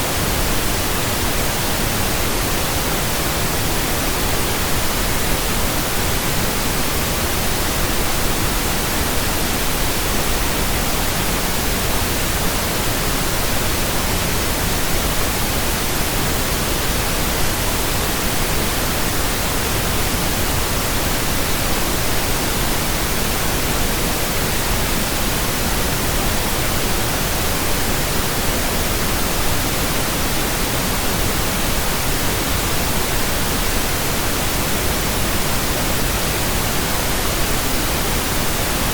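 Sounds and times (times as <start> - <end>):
pink noise hiss: 0.0 - 38.9.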